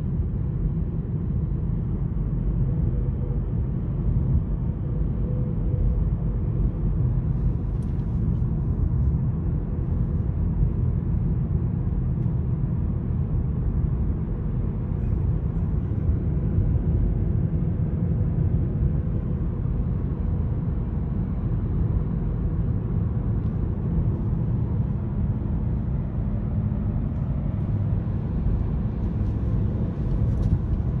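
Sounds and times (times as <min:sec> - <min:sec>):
car engine hum: 0:00.0 - 0:31.0
road and tyre noise: 0:00.0 - 0:31.0.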